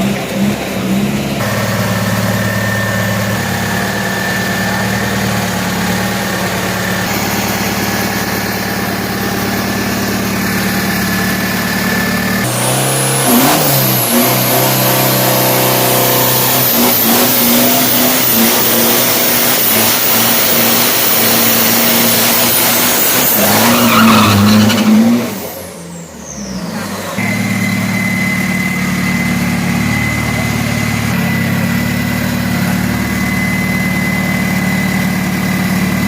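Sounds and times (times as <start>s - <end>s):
engine idling: 0.0s - 23.1s, 25.4s - 36.0s
racing car engine revving: 0.0s - 36.0s
high whistle: 1.5s - 9.7s, 11.6s - 35.0s.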